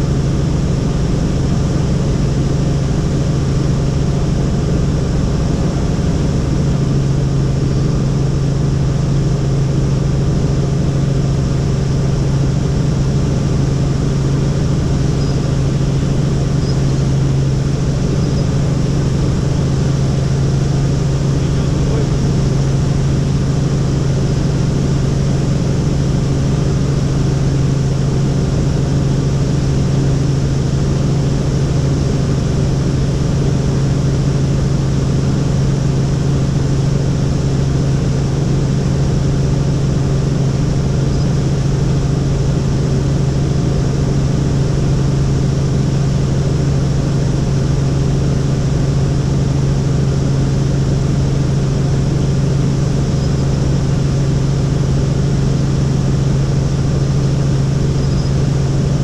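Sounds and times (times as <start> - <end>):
helicopter rotor and turbine drone: 0.0 - 59.0.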